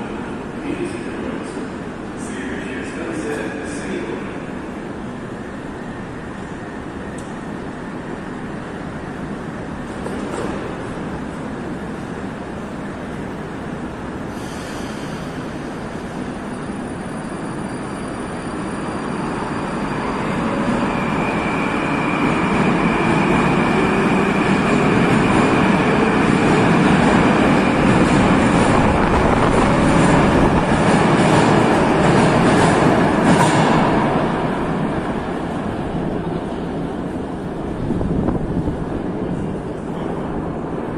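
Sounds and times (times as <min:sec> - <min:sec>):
metro train rumble: 0:00.0 - 0:40.9.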